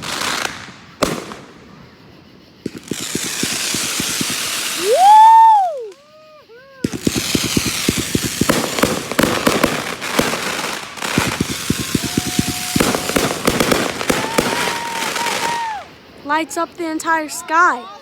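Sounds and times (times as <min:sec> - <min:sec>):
fireworks bangs: 0:00.0 - 0:18.0
fireworks crackle: 0:00.0 - 0:18.0.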